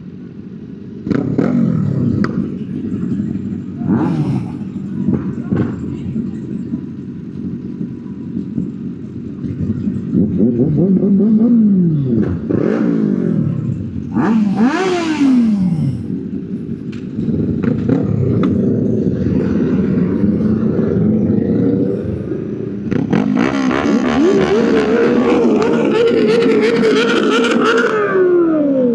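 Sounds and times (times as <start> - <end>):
motorcycle engine revving: 0.9 - 6.8, 7.4 - 28.9.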